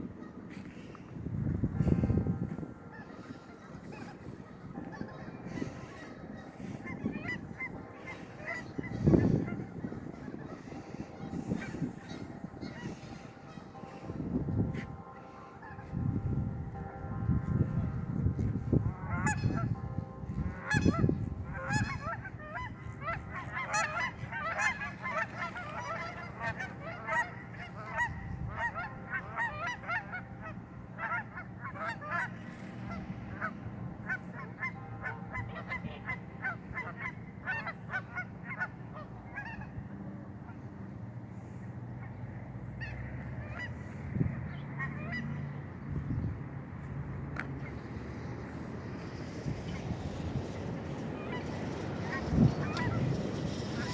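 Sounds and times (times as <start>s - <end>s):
geese honking: 0.0s - 53.9s.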